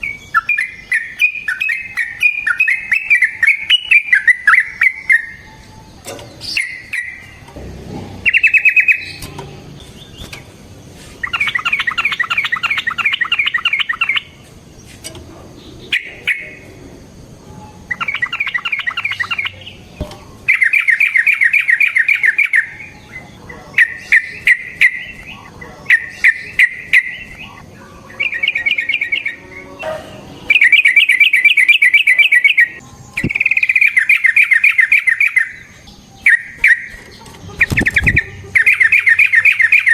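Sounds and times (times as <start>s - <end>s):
bird chattering trills: 0.0s - 7.4s, 8.2s - 10.5s, 11.2s - 14.8s, 15.5s - 39.9s.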